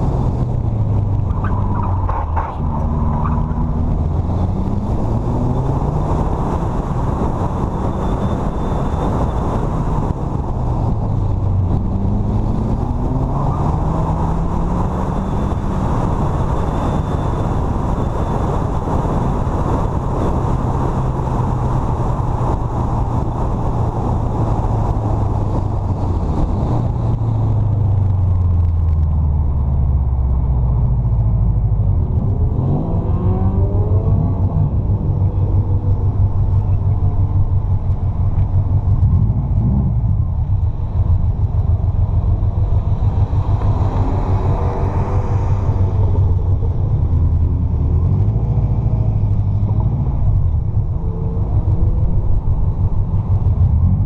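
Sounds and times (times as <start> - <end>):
car engine pulling through gears: 0.0 - 54.0
road noise: 0.0 - 54.0
wind noise: 0.0 - 54.0.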